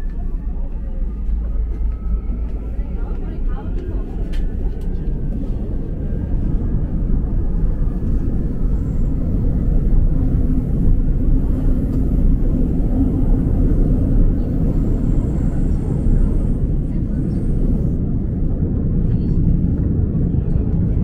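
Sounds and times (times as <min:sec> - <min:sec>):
faint hum: 0:00.0 - 0:21.0
subway train rumble: 0:00.0 - 0:21.0.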